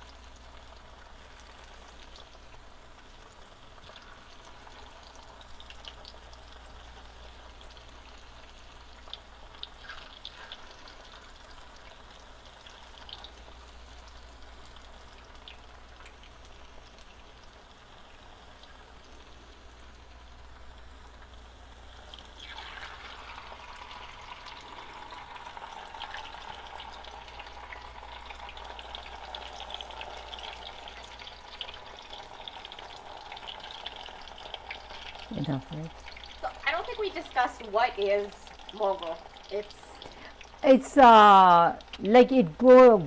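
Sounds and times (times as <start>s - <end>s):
food deep-frying in oil: 0.0s - 43.0s.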